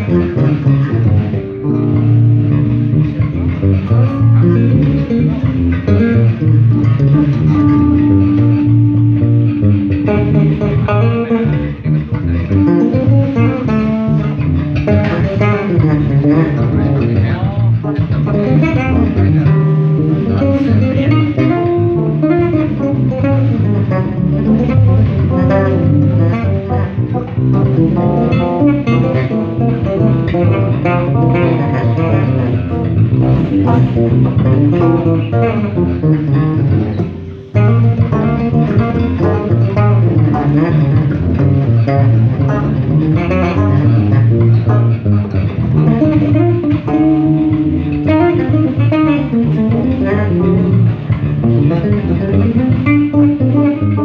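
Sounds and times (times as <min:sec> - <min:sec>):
electric bass guitars jamming: 0:00.0 - 0:54.0.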